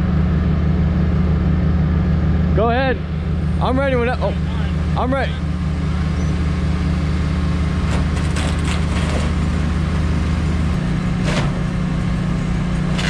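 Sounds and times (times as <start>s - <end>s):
excavator engine humming: 0.0s - 13.0s.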